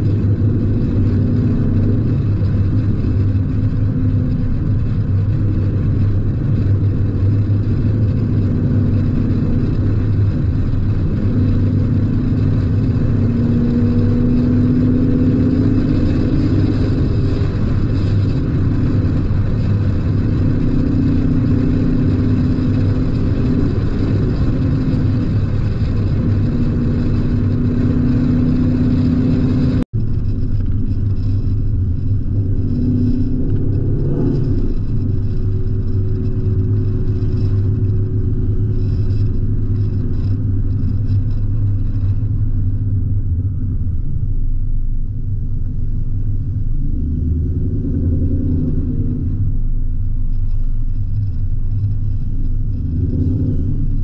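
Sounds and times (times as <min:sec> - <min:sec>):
car engine and exhaust cruising: 0:00.0 - 0:54.0.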